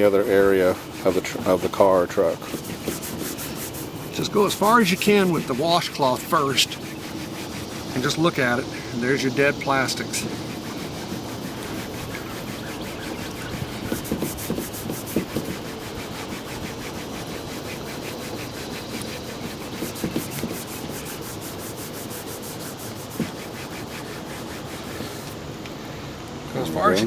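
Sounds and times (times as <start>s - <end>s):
washcloth rubbing plastic bumper: 0.0s - 25.5s.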